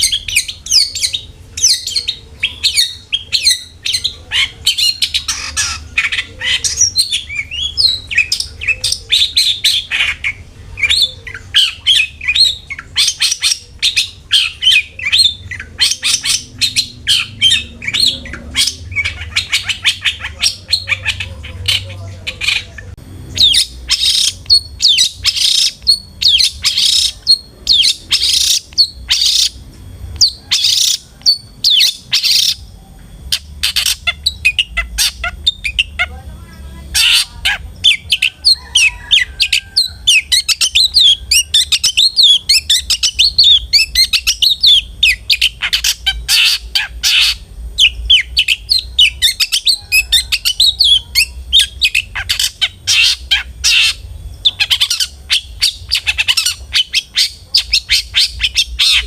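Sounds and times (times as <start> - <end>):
bird harsh rasping calls: 0.0 - 29.6, 30.2 - 59.0
bird high chattering twitter: 0.0 - 29.6, 30.2 - 59.0.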